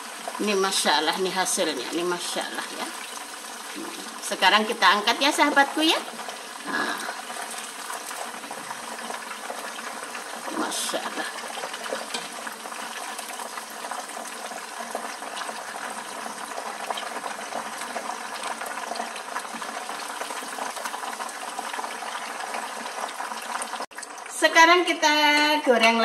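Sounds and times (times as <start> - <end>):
chicken deep-frying in hot oil: 0.0 - 26.0.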